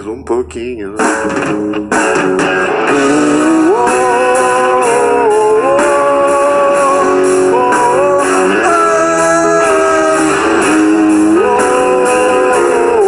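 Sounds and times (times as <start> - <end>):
backing band: 0.0 - 13.0
sliding guitar melody: 0.0 - 13.0.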